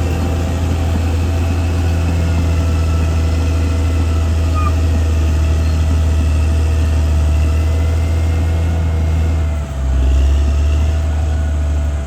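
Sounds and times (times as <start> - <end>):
bulldozer diesel engine drone: 0.0 - 12.0.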